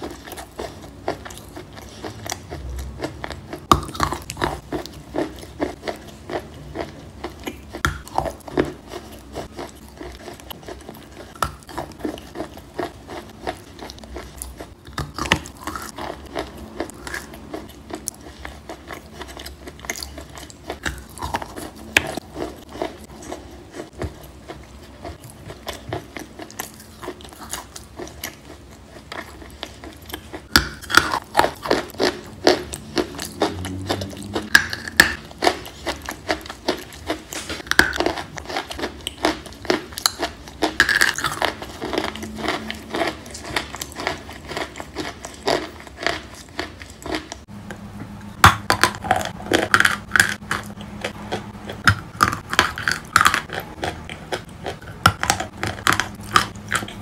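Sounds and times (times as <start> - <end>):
chalk crunching while chewing: 0.0 - 47.5, 48.4 - 57.0.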